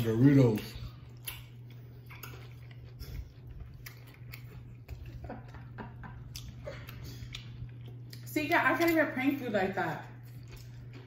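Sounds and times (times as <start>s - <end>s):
open-mouth chewing and lip smacking: 0.4s - 8.9s, 10.1s - 11.0s.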